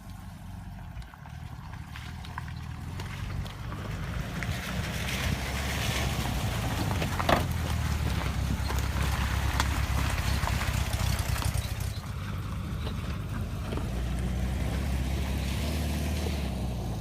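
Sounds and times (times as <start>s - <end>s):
van engine running: 0.0s - 17.0s.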